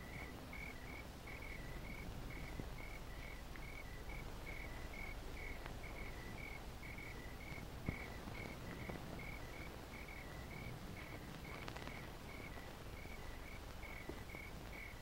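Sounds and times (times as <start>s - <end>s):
crickets chirping: 0.0s - 15.0s
film soundtrack hiss and hum: 0.0s - 15.0s.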